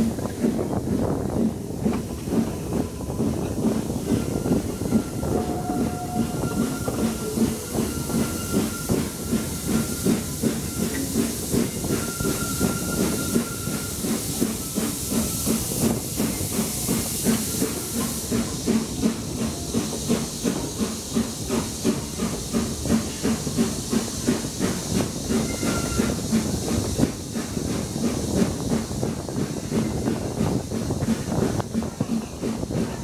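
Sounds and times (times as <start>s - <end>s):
steam hissing: 0.0s - 33.0s
steam locomotive exhaust chuffing: 0.0s - 33.0s
train noise: 0.0s - 33.0s.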